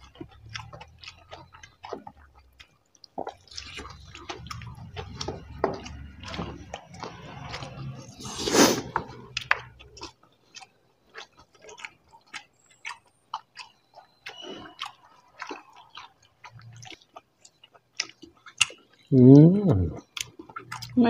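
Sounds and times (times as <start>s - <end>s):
chewing smacks: 0.0s - 19.2s, 19.9s - 21.0s.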